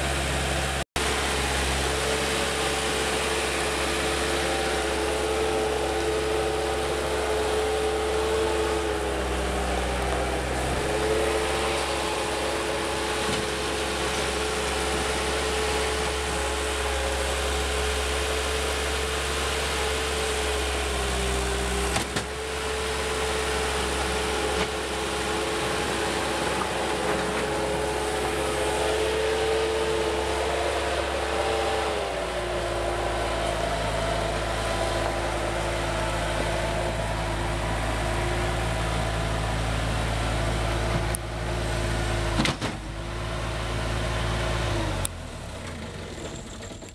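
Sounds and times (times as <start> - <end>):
diesel loader engine running: 0.0 - 46.9.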